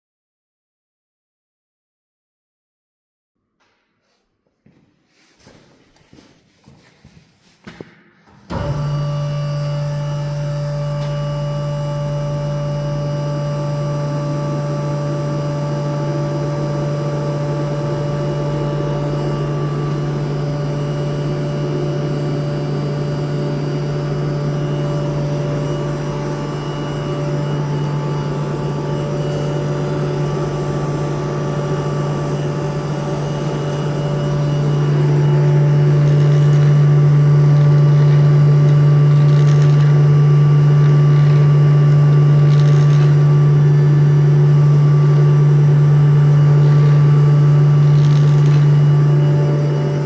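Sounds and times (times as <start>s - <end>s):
filling machine hum: 8.5s - 50.0s
machine whining tones: 8.5s - 50.0s.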